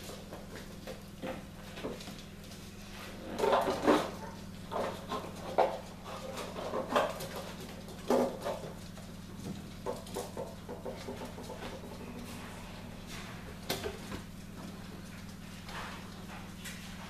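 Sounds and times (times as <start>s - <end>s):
paws clicking on tile floor: 0.0s - 17.0s
steady low hum: 0.0s - 17.0s.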